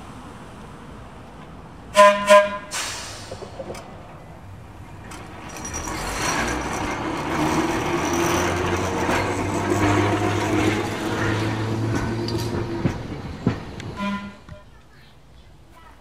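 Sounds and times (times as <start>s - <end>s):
streetcar motor hum and whine: 0.0s - 15.5s
wheels rumbling on rails: 0.0s - 15.8s.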